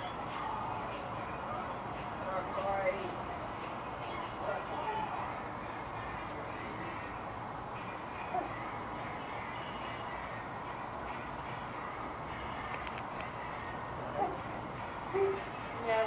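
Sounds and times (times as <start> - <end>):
outdoor background hiss: 0.0 - 16.0
pulsing insect chirr: 0.0 - 16.0.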